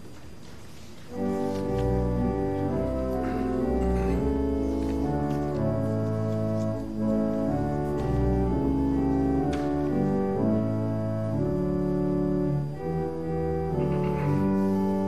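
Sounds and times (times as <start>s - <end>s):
organ playing hymn chords: 0.7s - 15.0s.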